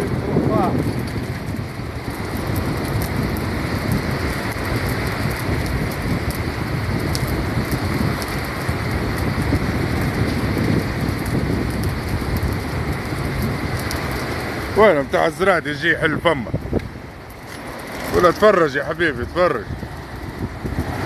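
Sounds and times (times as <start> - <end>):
wind and water rushing: 0.0 - 21.0.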